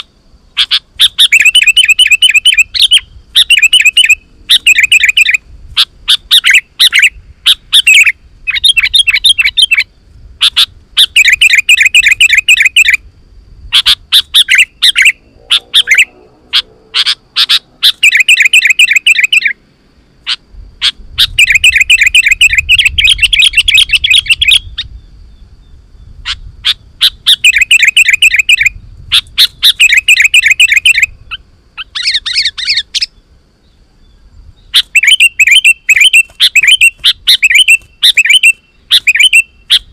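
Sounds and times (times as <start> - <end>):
bird chattering song: 0.0 - 13.0, 13.7 - 19.6, 20.2 - 39.9.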